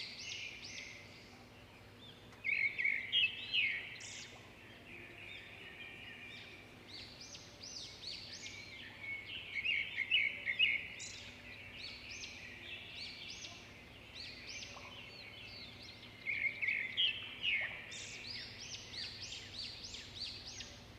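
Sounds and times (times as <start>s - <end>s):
bird singing: 0.0s - 20.9s.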